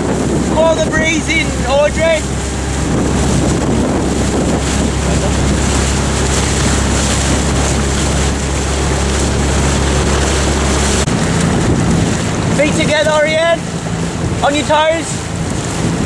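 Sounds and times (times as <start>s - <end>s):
outboard engine running: 0.0s - 16.0s
water noise: 0.0s - 16.0s
wind on microphone: 0.0s - 16.0s.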